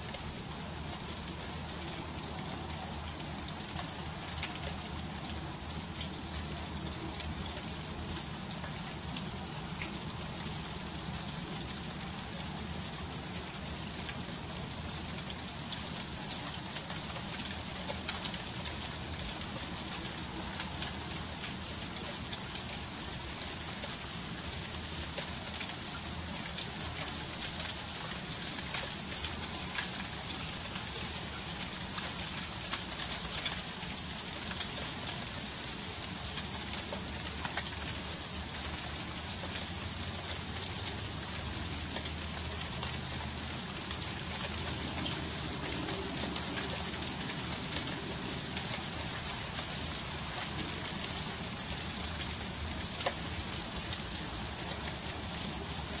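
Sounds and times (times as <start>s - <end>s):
freezing rain hissing: 0.0s - 56.0s.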